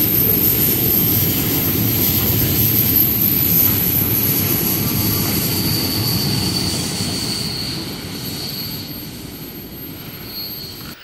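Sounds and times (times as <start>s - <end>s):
rumble of rolling freight wagons: 0.0s - 11.0s.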